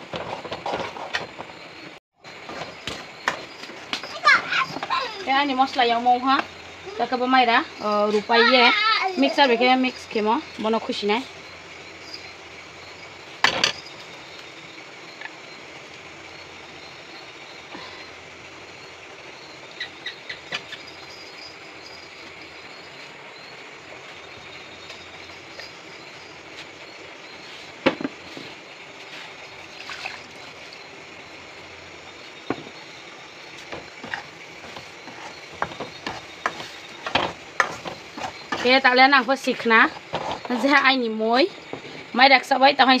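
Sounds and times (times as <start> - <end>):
curry frying hiss: 1.1 - 43.0.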